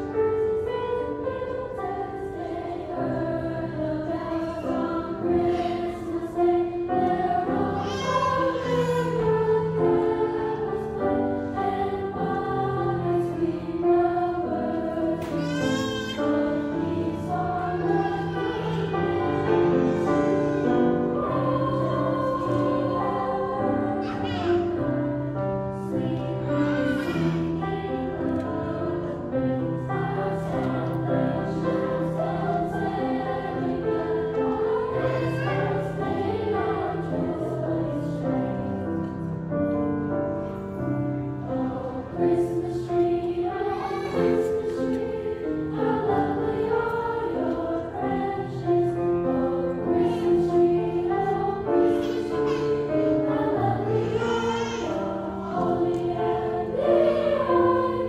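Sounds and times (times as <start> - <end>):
girls' choir singing: 0.0 - 58.0
grand piano accompaniment: 0.0 - 58.0.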